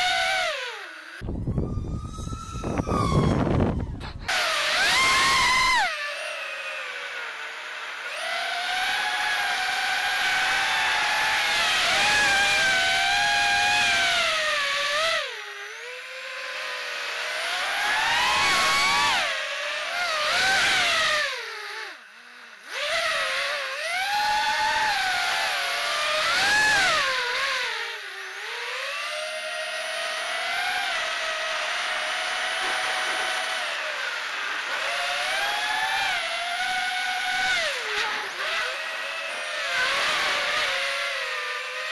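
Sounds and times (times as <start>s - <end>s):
drone motors whining: 0.0s - 41.9s.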